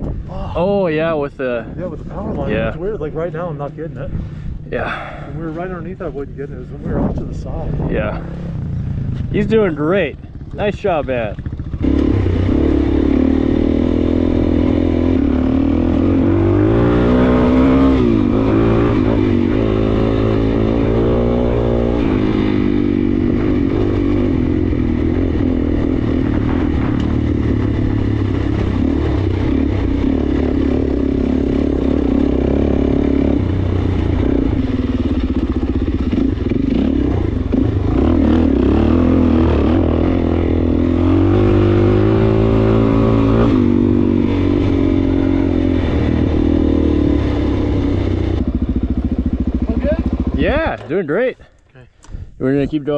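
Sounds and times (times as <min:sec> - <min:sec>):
dirt bike engine revving: 0:04.7 - 0:51.2.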